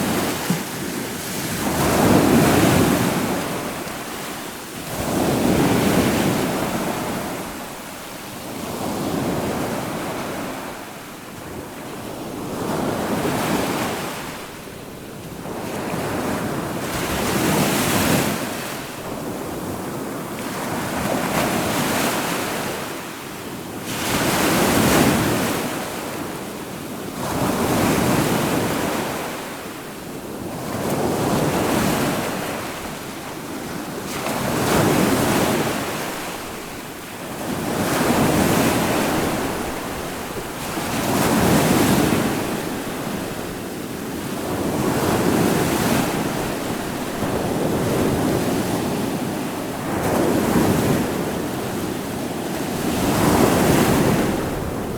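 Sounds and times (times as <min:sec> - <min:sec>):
waves breaking and washing in: 0:00.0 - 0:54.9.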